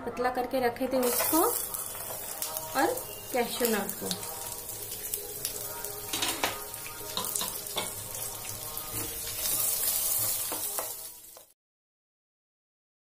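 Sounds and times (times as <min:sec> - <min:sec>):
food sizzling in frying pan: 0:01.0 - 0:11.6.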